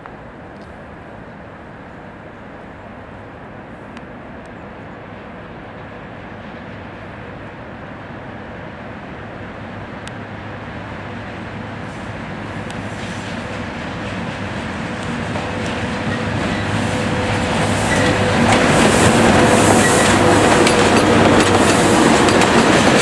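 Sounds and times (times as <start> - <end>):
freight train rumble with low hum: 0.0 - 23.0.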